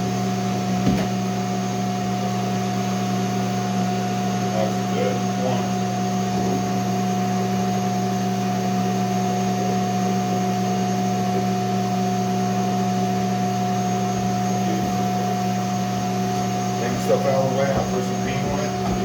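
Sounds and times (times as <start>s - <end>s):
motor-driven machine humming: 0.0s - 19.0s.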